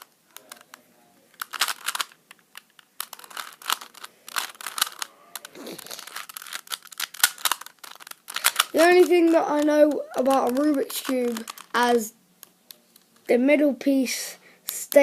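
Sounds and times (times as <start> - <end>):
puzzle cube plastic clicks: 0.0 - 13.3.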